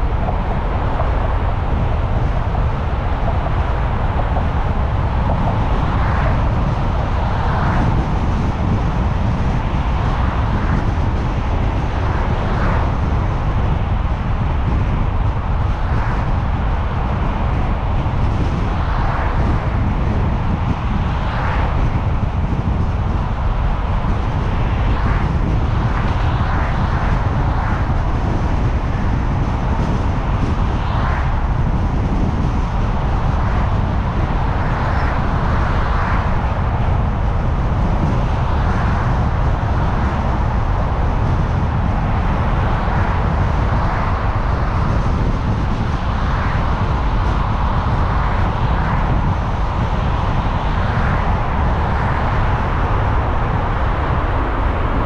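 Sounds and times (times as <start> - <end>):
car tyres and engine rumble: 0.0 - 55.0
passing traffic: 0.0 - 55.0.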